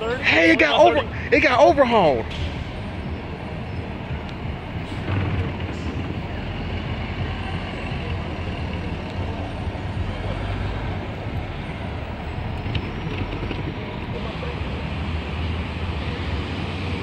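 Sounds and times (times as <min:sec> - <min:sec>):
bus engine running: 0:00.0 - 0:17.0
street traffic: 0:00.0 - 0:17.0.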